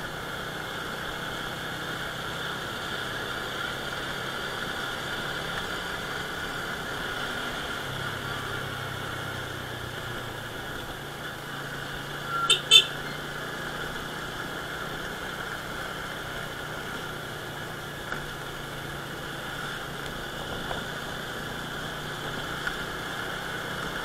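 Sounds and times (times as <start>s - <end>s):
small motorcycle engine running: 0.0s - 24.0s.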